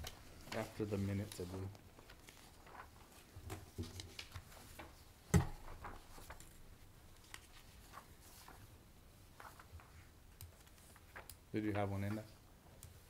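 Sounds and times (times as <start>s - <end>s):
papers being leafed through: 0.0s - 13.0s.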